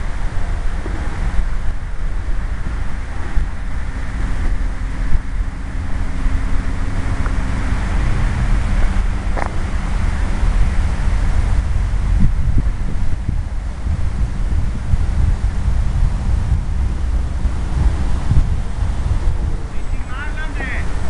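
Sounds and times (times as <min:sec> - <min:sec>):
faint steady hum: 0:00.0 - 0:21.0
wind buffeting microphone: 0:00.0 - 0:21.0.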